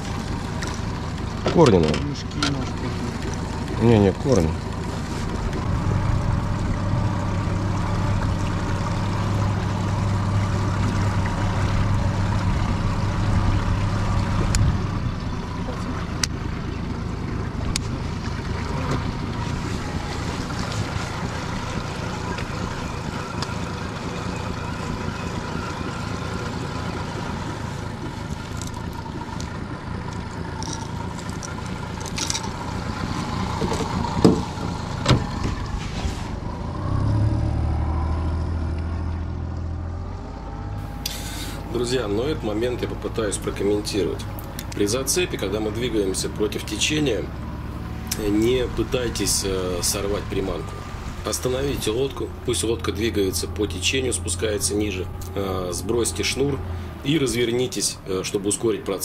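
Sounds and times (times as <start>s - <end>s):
motorboat engine hum: 0.0s - 59.0s
water noise: 0.0s - 59.0s.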